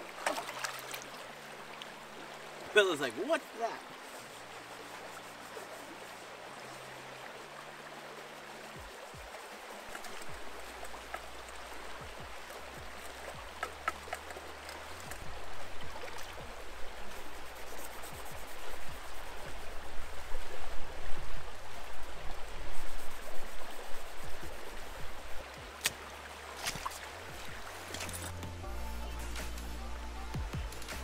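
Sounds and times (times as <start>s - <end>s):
creek water running: 0.0s - 31.0s.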